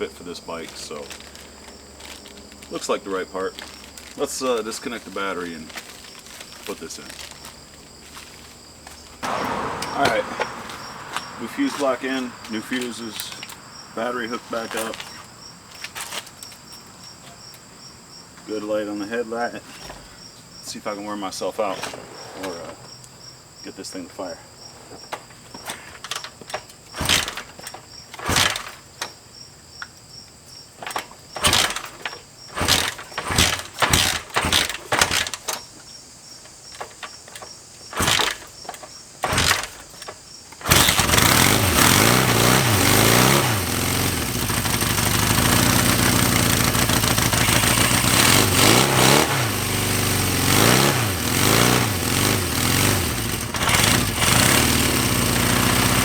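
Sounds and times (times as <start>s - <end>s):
motorcycle engine cranking and running: 0.0s - 17.6s, 24.9s - 30.1s, 30.7s - 56.0s.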